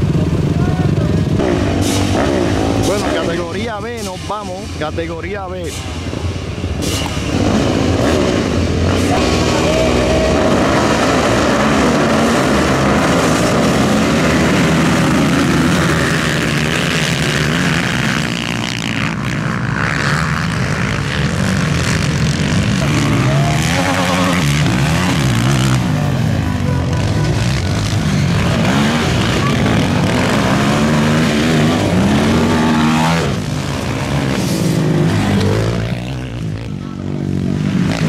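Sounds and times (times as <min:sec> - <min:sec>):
racing atv engines accelerating: 0:00.0 - 0:38.0.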